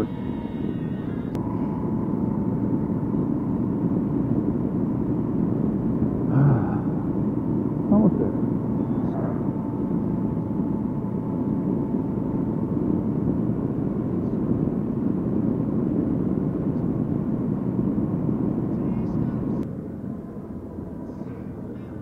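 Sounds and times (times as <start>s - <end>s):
motorcycle engine cruising: 0.0s - 19.6s
wind and road noise: 0.0s - 22.0s.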